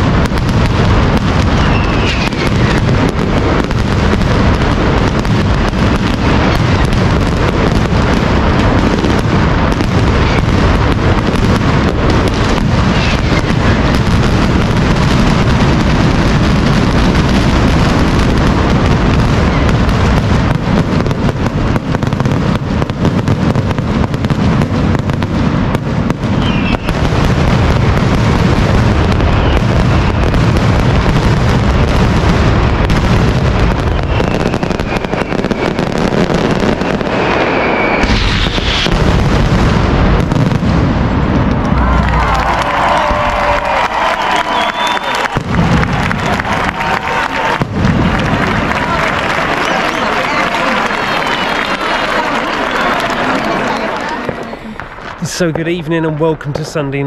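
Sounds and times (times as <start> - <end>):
firecracker barrage: 0.0 - 57.0.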